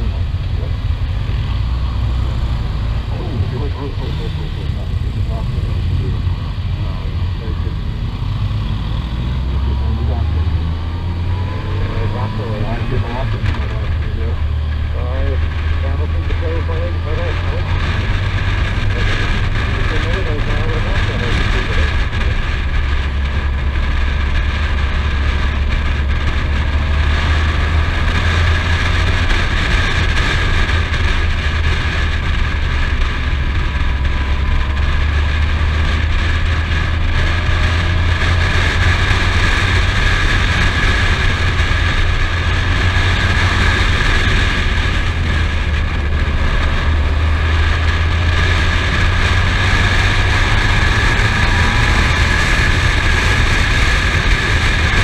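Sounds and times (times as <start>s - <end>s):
wind and engine rumble: 0.0s - 55.0s.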